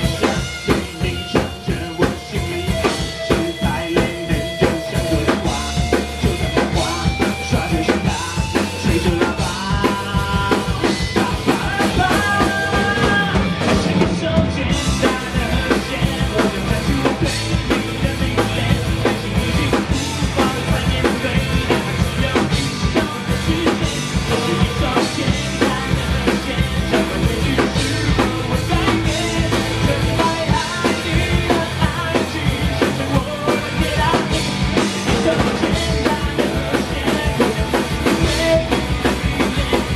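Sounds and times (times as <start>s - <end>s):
drum kit steady beat: 0.0s - 39.9s
rock band playing live: 0.0s - 39.9s.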